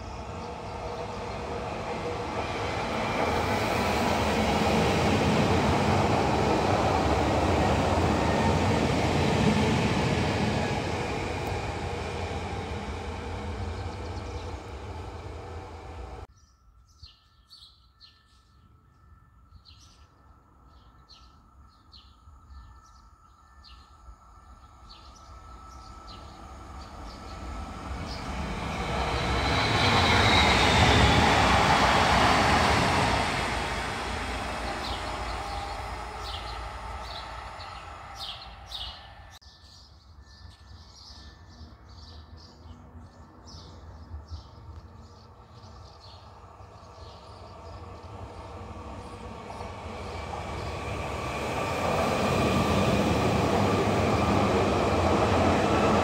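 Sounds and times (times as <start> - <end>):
electric train passing: 0.0 - 16.3, 23.4 - 39.4, 41.2 - 56.0
birds chirping: 0.0 - 56.0.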